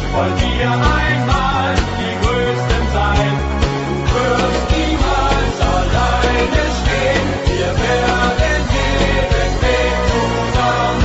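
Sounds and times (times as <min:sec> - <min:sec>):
pop-rock song: 0:00.0 - 0:11.0.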